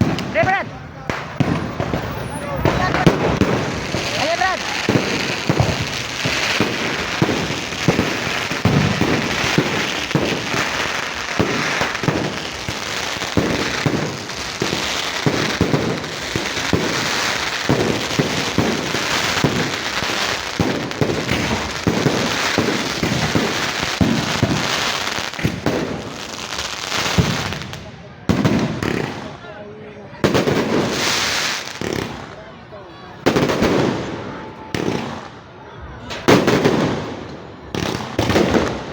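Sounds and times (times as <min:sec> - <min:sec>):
fireworks bursting: 0:00.0 - 0:29.5, 0:30.1 - 0:32.5, 0:33.2 - 0:38.9.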